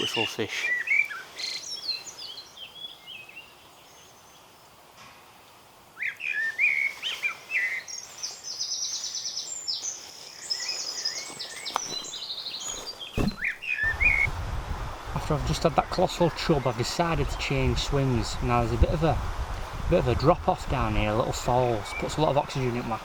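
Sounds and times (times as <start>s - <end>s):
songbirds singing: 0.0s - 4.9s, 5.8s - 14.4s, 15.2s - 23.0s.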